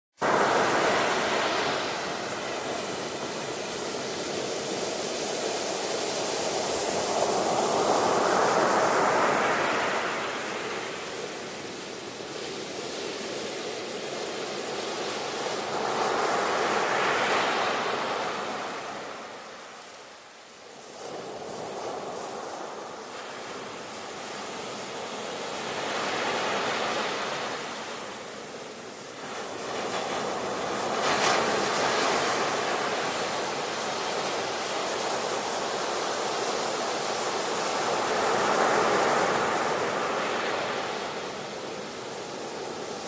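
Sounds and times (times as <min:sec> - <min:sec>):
ocean waves breaking on shore: 0:00.2 - 0:43.0.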